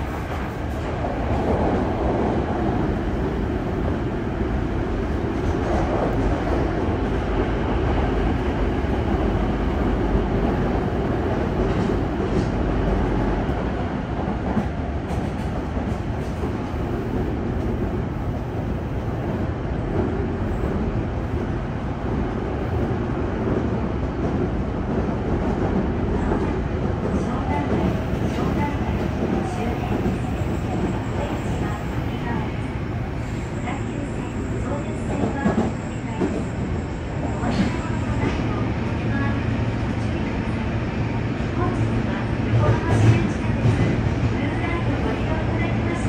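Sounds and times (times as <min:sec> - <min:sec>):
subway car wheels rumbling on rail: 0:00.0 - 0:46.0.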